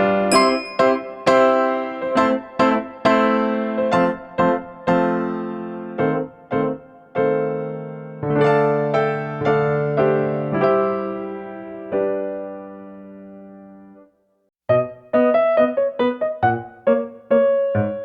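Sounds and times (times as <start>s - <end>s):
electric piano melody: 0.0s - 14.1s, 14.7s - 18.0s.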